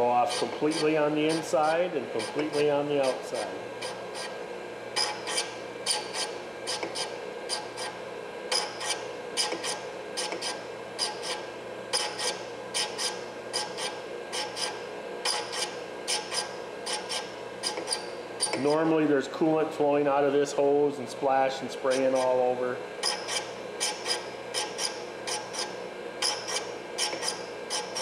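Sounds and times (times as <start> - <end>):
valve rasping on grinding stone: 0.0 - 4.4, 5.0 - 18.8, 21.9 - 22.4, 23.0 - 28.0
machine motor hum: 0.0 - 28.0.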